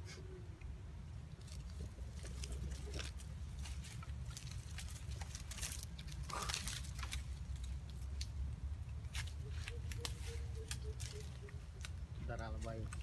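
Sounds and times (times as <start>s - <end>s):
steady low rumble: 0.0s - 13.0s
clicks and rustles: 1.3s - 12.0s.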